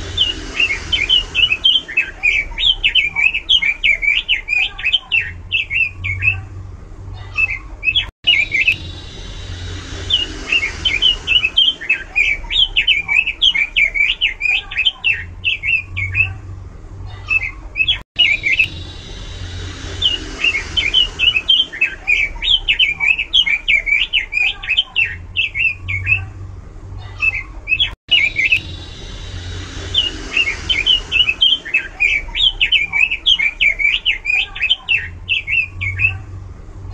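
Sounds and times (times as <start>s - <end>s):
bird singing varied song: 0.0s - 6.5s, 7.2s - 16.4s, 17.2s - 26.3s, 27.2s - 36.3s.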